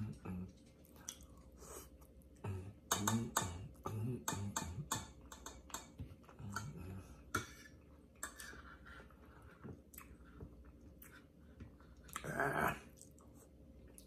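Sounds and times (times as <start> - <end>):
man chewing food: 0.0 - 14.0.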